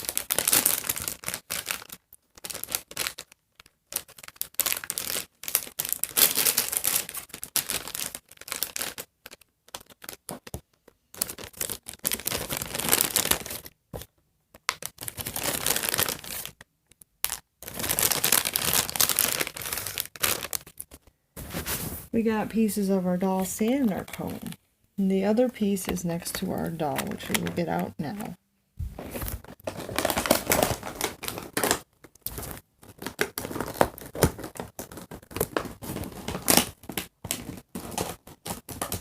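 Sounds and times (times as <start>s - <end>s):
plastic packaging tearing and crinkling: 0.0s - 22.0s, 26.6s - 27.9s, 28.9s - 39.0s.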